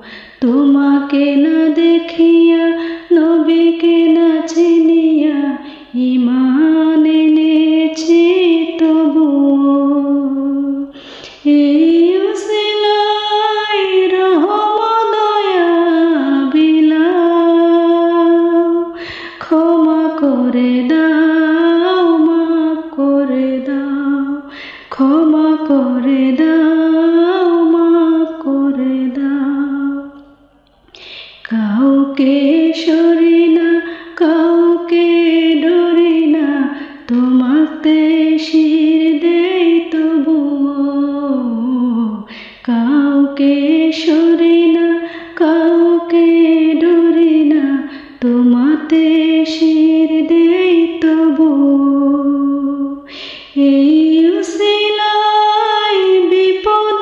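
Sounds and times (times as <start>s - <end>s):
woman singing slow melody: 0.0s - 57.0s.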